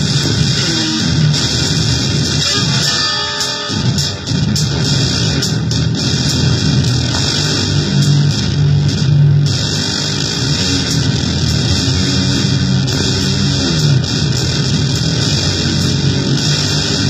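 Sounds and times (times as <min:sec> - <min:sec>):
distorted electric guitar: 0:00.0 - 0:17.0.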